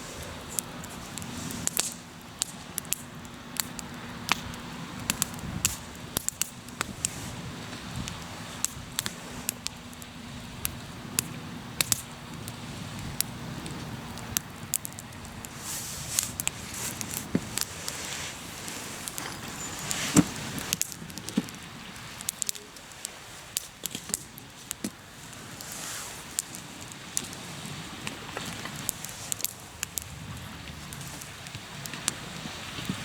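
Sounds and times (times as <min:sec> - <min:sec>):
campfire crackling and popping: 0:00.0 - 0:33.0
hiss of burning: 0:00.0 - 0:33.0.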